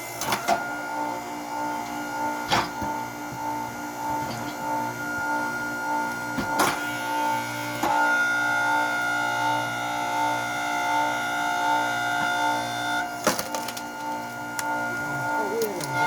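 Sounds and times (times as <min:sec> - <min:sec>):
hydraulic log splitter whine: 0:00.0 - 0:16.0.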